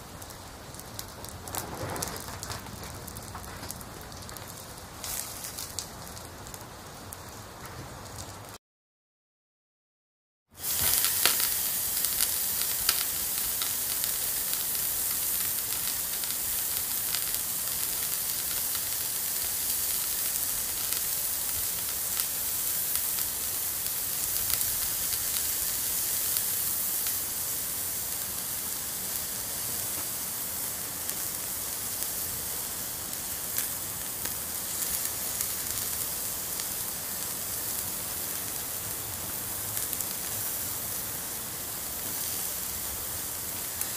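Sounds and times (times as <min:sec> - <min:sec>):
crackles and pops: 0:00.0 - 0:08.6, 0:10.6 - 0:43.9
meat sizzling over charcoal: 0:00.0 - 0:08.6, 0:10.5 - 0:43.9.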